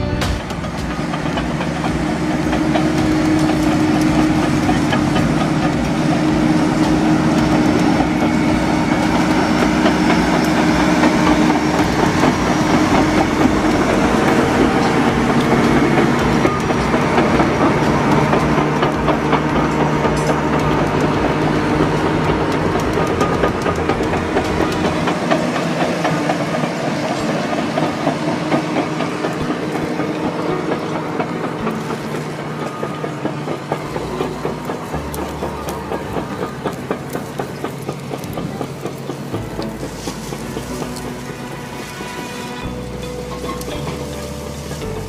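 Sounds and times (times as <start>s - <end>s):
bulldozer diesel engine: 0.0s - 45.0s
steel tracks clattering: 0.0s - 45.0s.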